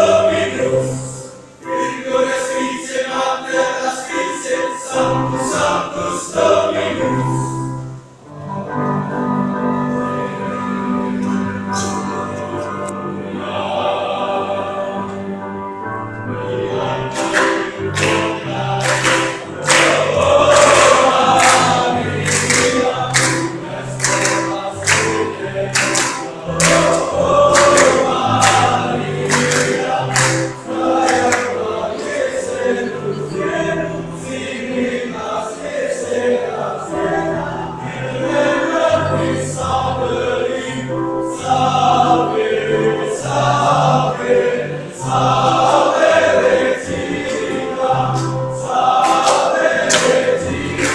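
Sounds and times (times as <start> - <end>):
men's choir singing a hymn: 0.0 - 50.9.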